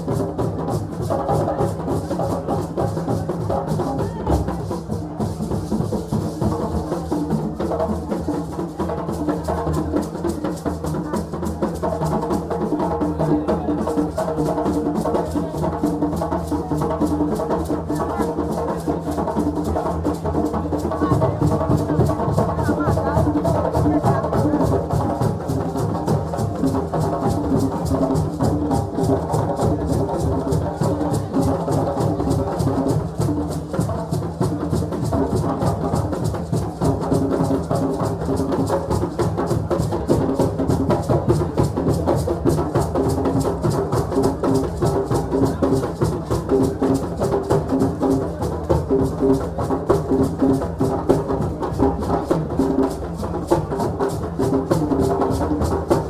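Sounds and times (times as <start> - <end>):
drums playing fast rhythm: 0.0 - 56.0.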